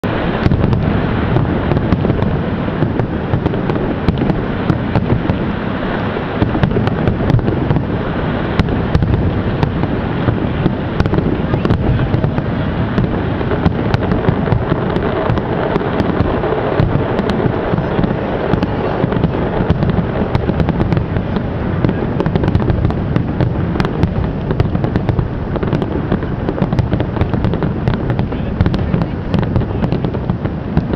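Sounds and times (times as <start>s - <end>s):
fireworks crackling pops: 0.0s - 30.9s
fireworks rumble: 0.0s - 30.9s.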